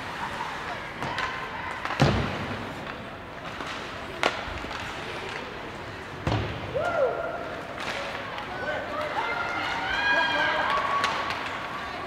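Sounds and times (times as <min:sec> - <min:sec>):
rink background noise: 0:00.0 - 0:12.0
puck and sticks hitting boards: 0:00.9 - 0:06.8, 0:07.6 - 0:12.0.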